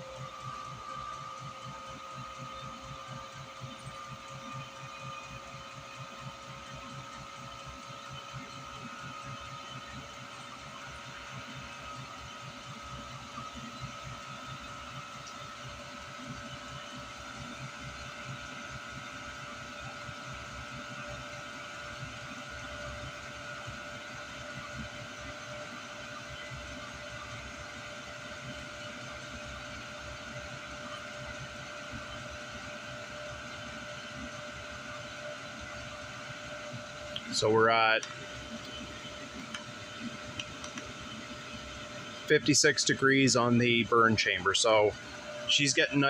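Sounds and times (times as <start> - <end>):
heater blower fan whine: 0.0 - 46.0.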